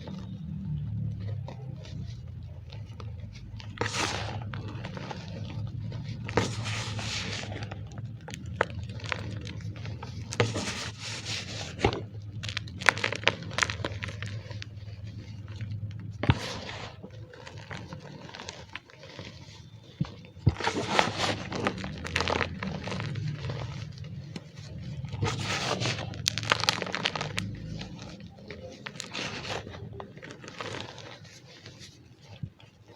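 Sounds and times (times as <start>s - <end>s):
chalk crunching and squeaking: 0.0s - 32.9s.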